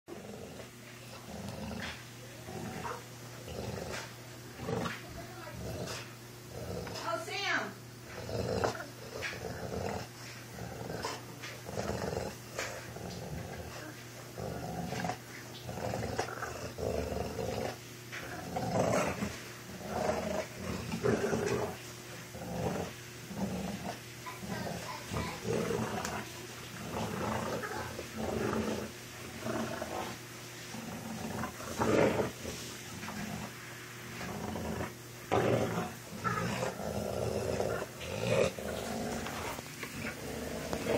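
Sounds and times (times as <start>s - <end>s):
dogs growling while fighting: 0.1s - 7.2s, 8.0s - 40.9s.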